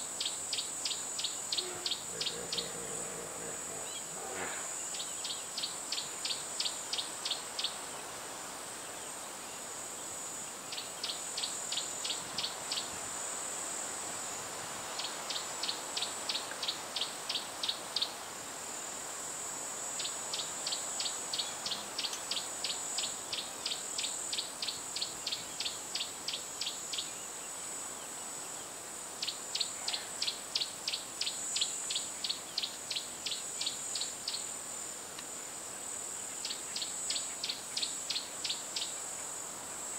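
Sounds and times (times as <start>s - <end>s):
insects droning: 0.0s - 39.9s
rapid insect chirps: 0.0s - 39.9s.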